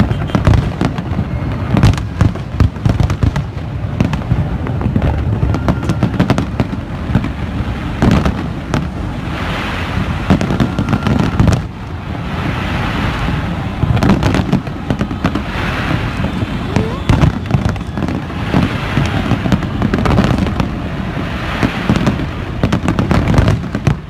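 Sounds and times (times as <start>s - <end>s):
fireworks booming: 0.0s - 24.0s
fireworks crackling: 0.0s - 24.0s.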